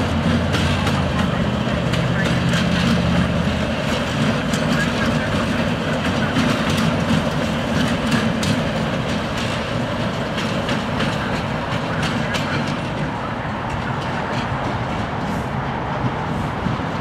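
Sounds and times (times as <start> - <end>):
diesel locomotive engine running: 0.0 - 17.0
wheels clicking over rail joints: 0.0 - 17.0.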